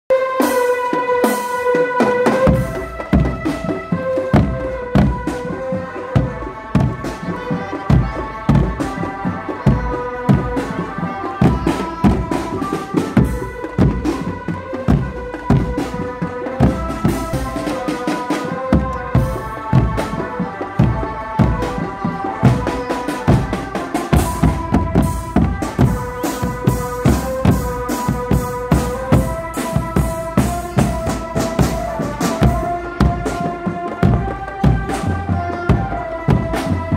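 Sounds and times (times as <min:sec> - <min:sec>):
bass drums and marching drums: 0:00.1 - 0:36.9
high-pitched melody: 0:00.1 - 0:36.9.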